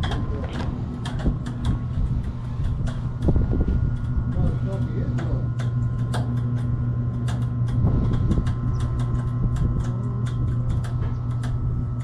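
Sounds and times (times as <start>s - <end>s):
sharp clicks and rattles: 0.0s - 12.0s
vehicle engine running: 0.0s - 12.0s.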